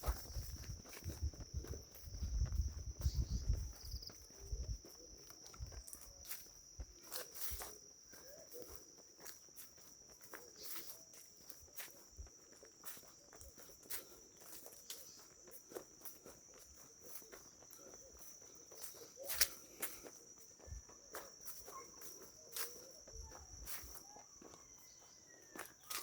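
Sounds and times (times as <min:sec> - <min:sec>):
footsteps on a path: 0:00.0 - 0:26.0
insects trilling: 0:00.0 - 0:26.0.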